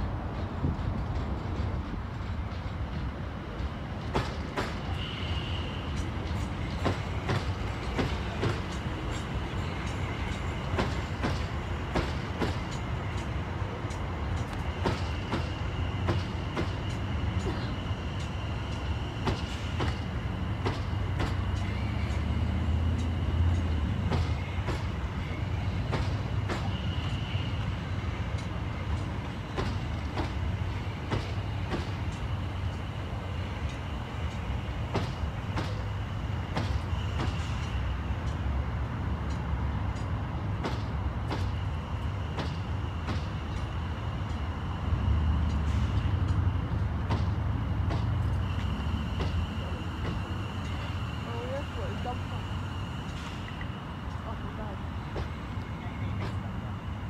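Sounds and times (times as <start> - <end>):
electric train rumbling past: 0.0 - 57.0.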